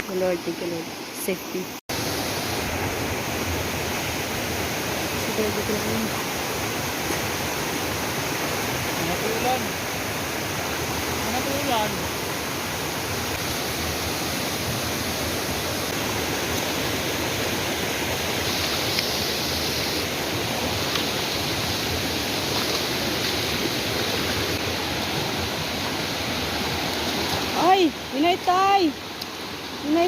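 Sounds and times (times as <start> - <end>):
rushing river water: 0.0 - 30.0.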